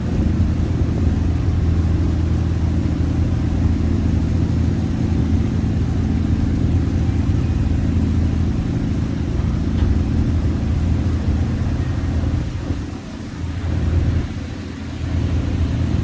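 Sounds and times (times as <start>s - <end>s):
ferry engine droning: 0.0s - 16.0s.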